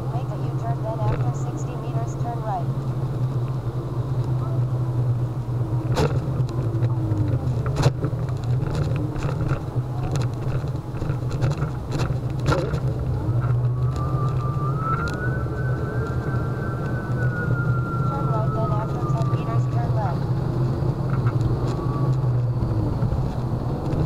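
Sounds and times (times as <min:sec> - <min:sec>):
electric unicycle hum: 0:00.0 - 0:24.0
high whine: 0:00.0 - 0:24.0
traffic: 0:00.0 - 0:24.0.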